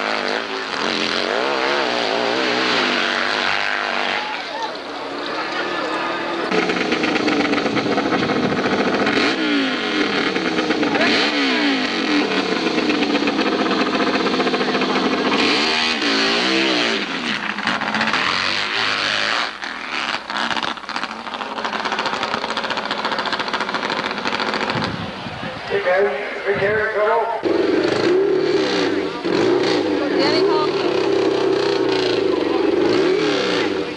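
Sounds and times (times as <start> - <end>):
motorcycle engine revving hard: 0.0 - 25.6, 27.4 - 33.9.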